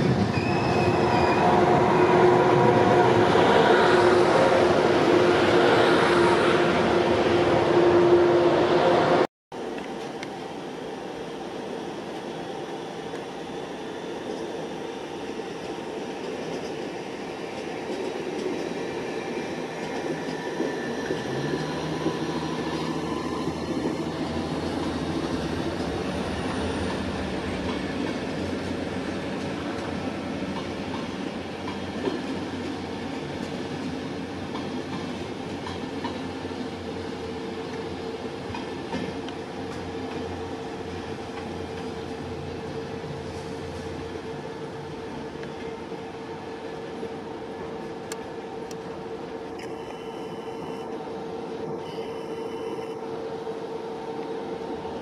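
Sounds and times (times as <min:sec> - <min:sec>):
train wheels rumbling on rails: 0:00.0 - 0:09.2, 0:13.0 - 0:49.6.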